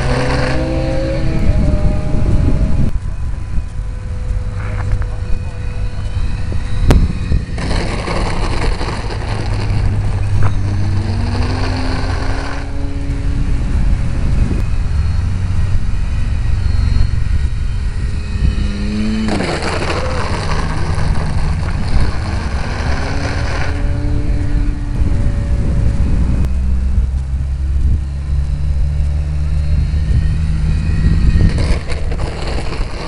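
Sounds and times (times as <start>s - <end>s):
vehicle engine humming: 0.0s - 33.0s
wind noise on microphone: 0.0s - 33.0s.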